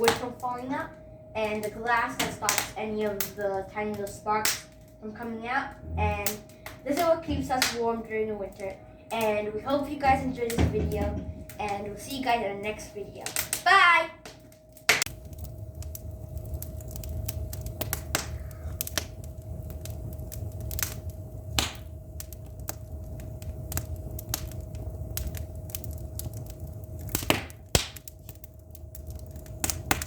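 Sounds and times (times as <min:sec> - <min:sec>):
faint steady hum: 0:00.0 - 0:30.0
low steady rumble: 0:00.0 - 0:30.0
wood fire crackling: 0:00.0 - 0:30.0.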